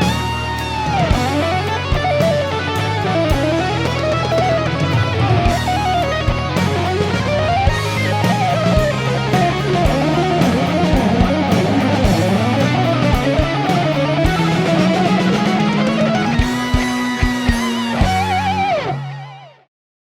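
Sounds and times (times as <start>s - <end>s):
bass and drums: 0.0s - 19.4s
electric guitar melody: 0.0s - 19.7s.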